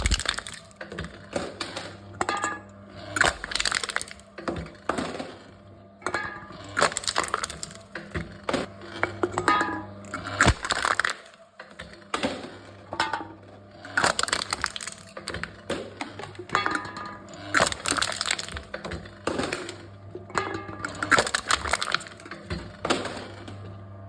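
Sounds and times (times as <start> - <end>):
cans being crushed by machine: 0.0 - 23.8.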